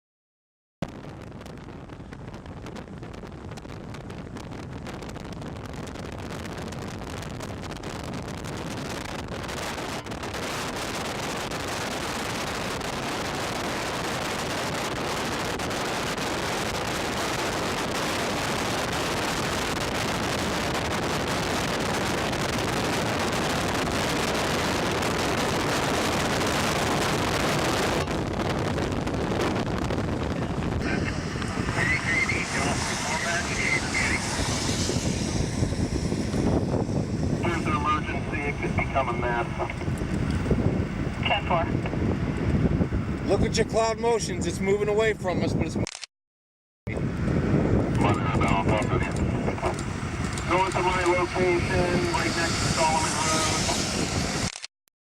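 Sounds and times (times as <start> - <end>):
wind blowing across microphone: 0.8 - 45.9, 46.9 - 54.6.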